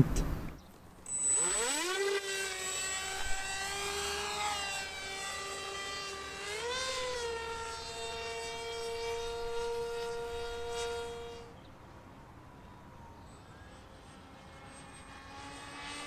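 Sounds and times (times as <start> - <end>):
electric propeller motor whining: 0.0 - 16.0.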